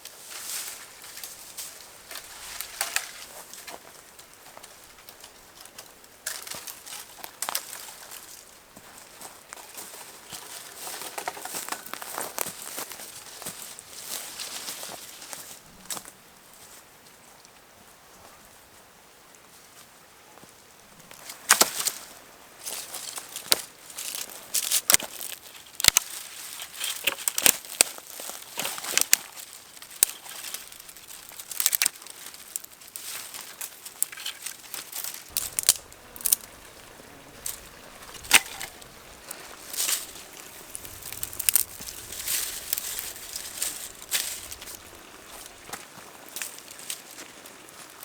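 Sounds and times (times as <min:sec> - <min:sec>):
crinkling and crackling handling: 0:00.0 - 0:16.1, 0:21.1 - 0:48.0.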